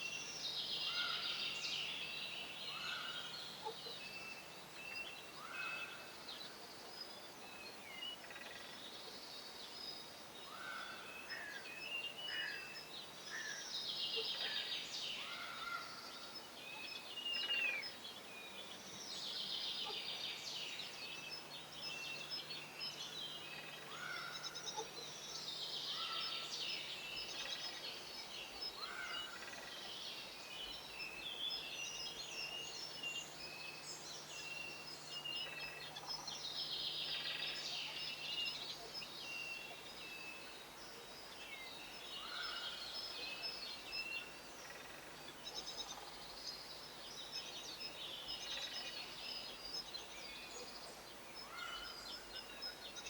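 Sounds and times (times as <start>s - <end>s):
songbirds chirping and twittering: 0.0s - 53.0s.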